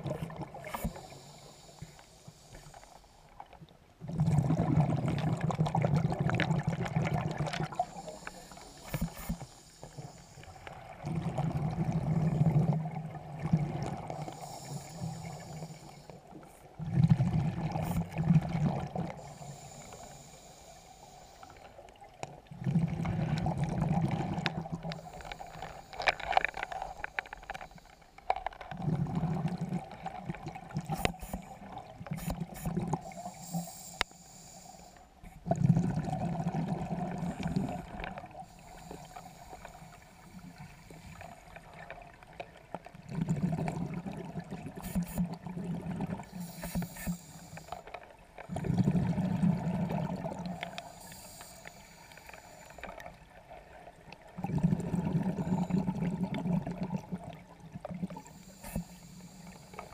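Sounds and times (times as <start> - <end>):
underwater exhaled bubbles: 0.0 - 59.9.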